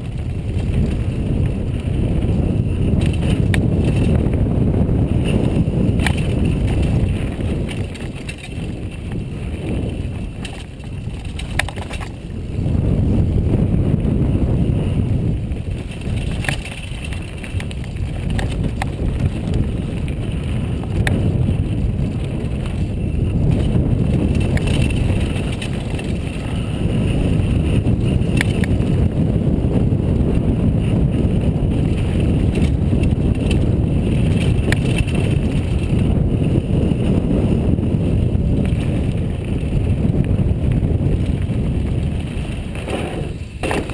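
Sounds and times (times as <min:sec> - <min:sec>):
bike clattering over bumps: 0:00.0 - 0:43.9
tyre rumble on dirt trail: 0:00.0 - 0:43.9
wind buffeting microphone: 0:00.0 - 0:43.9.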